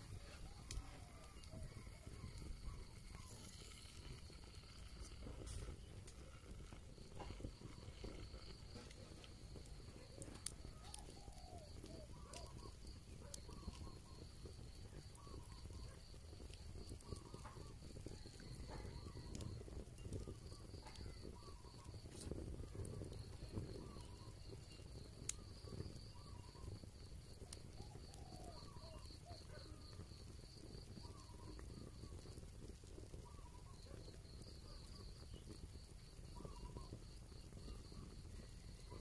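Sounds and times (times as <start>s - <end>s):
insect pulsing trill: 0.0s - 32.3s, 33.0s - 39.0s
wood fire crackling: 0.0s - 39.0s.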